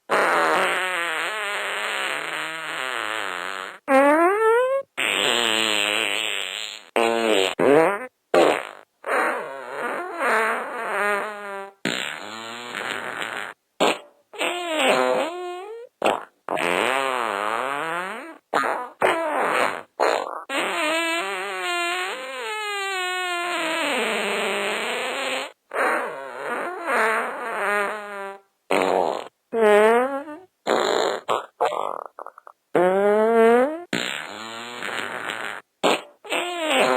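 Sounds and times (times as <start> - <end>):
fart sound effects: 0.1 - 36.9.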